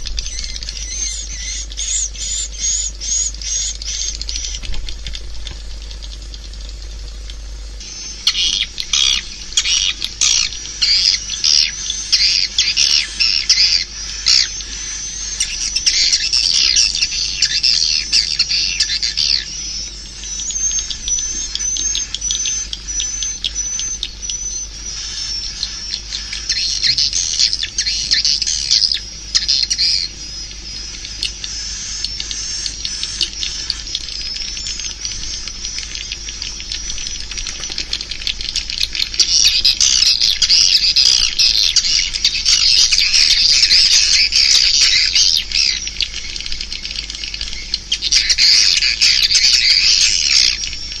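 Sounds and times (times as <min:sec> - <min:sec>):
swiftlets twittering: 0:00.0 - 0:51.0.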